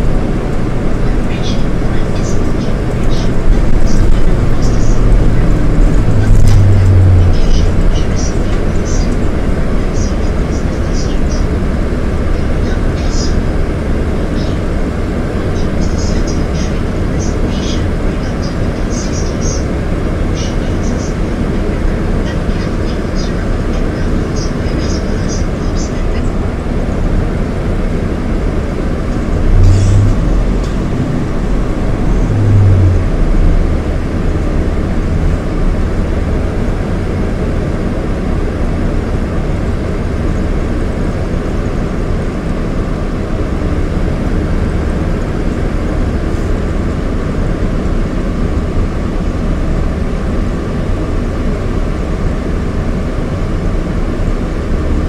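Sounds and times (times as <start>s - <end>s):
diesel bus engine drone: 0.0s - 55.0s
road rumble: 0.0s - 55.0s.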